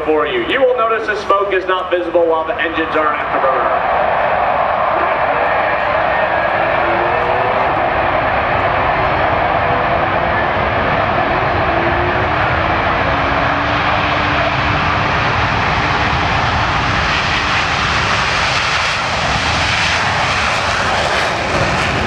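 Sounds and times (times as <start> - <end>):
jet engines roaring: 0.0 - 22.0
jets passing with falling whine: 0.3 - 22.0.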